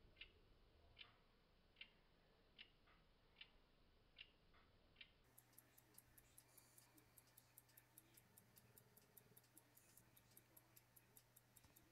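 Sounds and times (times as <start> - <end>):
pocket watch ticking: 1.0 - 1.2, 1.8 - 2.0, 2.6 - 11.9.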